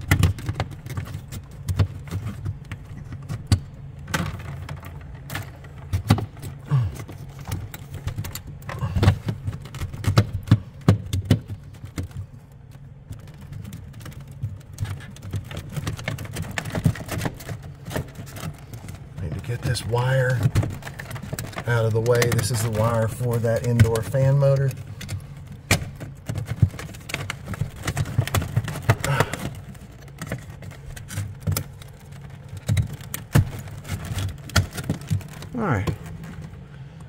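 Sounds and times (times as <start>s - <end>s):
air conditioner hum: 0.0s - 37.0s.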